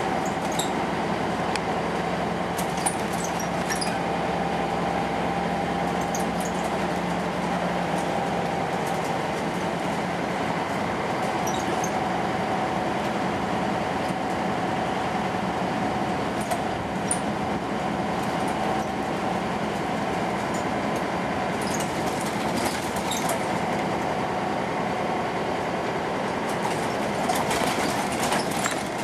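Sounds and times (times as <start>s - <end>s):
diesel engine drone: 0.0s - 29.0s
road noise: 0.0s - 29.0s.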